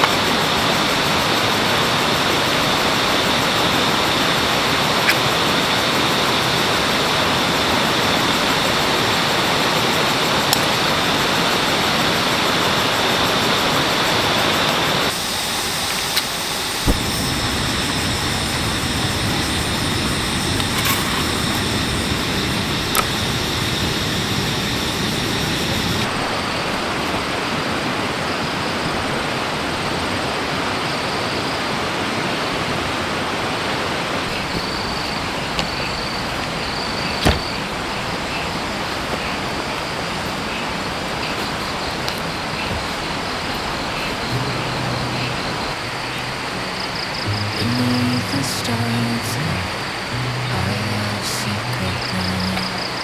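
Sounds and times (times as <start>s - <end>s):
insects chirping faintly: 0.0s - 53.0s.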